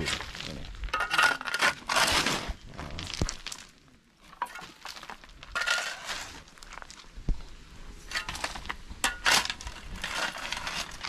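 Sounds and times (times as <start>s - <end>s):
concrete rubble scraping and crunching: 0.0s - 11.0s.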